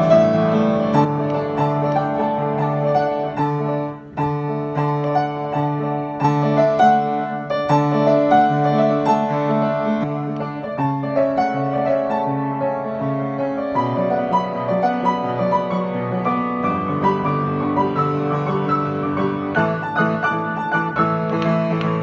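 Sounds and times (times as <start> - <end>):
piano playing: 0.0 - 22.0.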